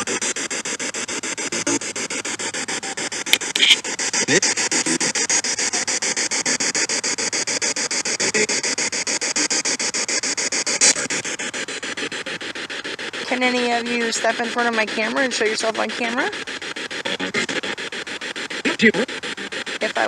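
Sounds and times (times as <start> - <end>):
choppy radio hiss: 0.0 - 20.0.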